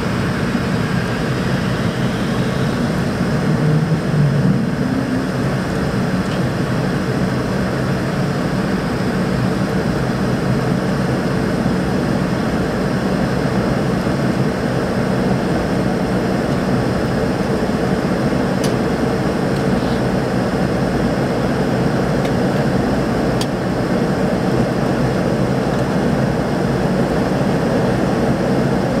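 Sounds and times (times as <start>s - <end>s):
jet engines at climb power: 0.0s - 29.0s
rushing air: 0.0s - 29.0s.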